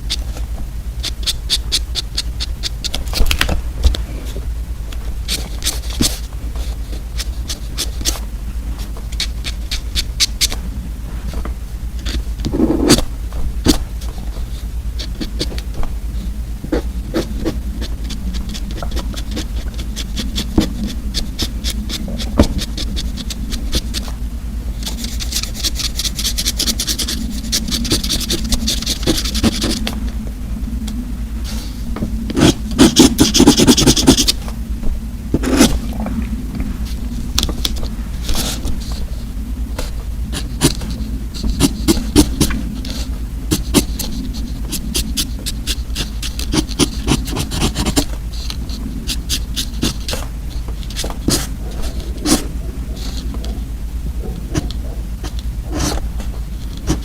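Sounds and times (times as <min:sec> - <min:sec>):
paper scraping and rubbing: 0:00.0 - 0:30.2, 0:31.4 - 0:57.0
steady low hum: 0:00.0 - 0:57.0.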